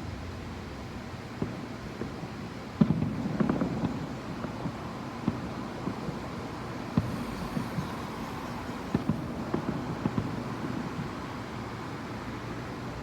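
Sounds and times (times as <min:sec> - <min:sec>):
distant fireworks pops and thuds: 0:01.3 - 0:12.9.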